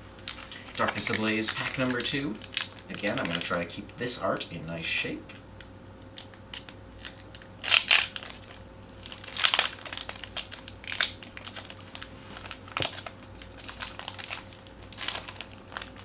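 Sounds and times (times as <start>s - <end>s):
foil wrapper crinkling: 0.2s - 3.8s, 6.0s - 16.0s.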